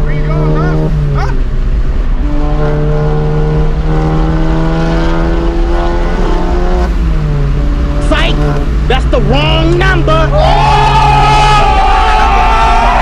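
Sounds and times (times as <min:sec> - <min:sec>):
car engine running loud: 0:00.0 - 0:13.0.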